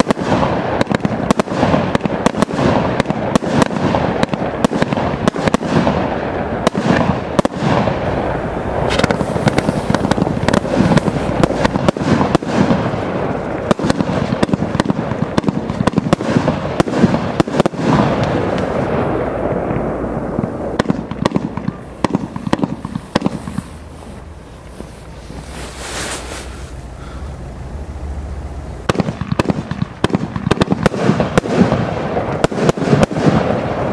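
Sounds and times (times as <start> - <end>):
firework launch bangs: 0.0 - 27.4, 28.7 - 33.9
firework shells bursting: 0.0 - 27.8, 28.6 - 33.9
firework crackling: 0.0 - 33.9
firework hiss: 0.0 - 33.9.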